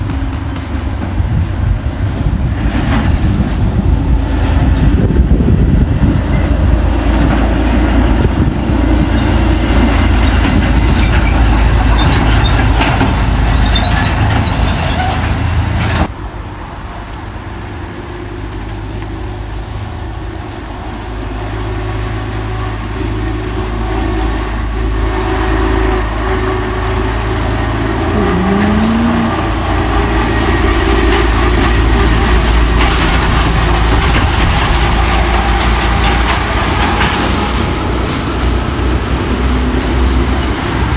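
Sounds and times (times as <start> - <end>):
approaching truck engine: 0.0 - 40.9
diesel truck engines labouring: 0.0 - 40.9.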